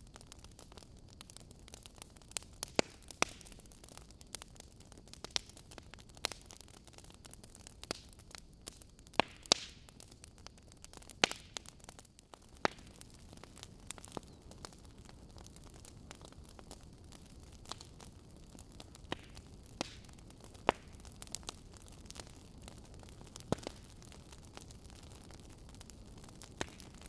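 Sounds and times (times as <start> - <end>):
fireplace logs crackling and popping: 0.0 - 27.0.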